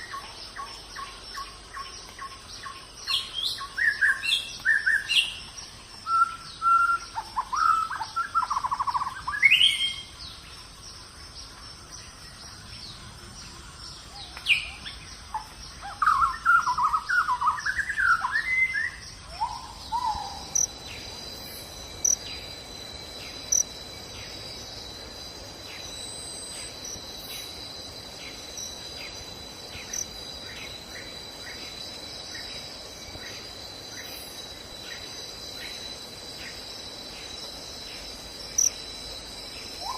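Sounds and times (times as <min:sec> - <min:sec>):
birds chirping and trilling: 0:00.0 - 0:39.9
high insect drone: 0:00.0 - 0:39.9.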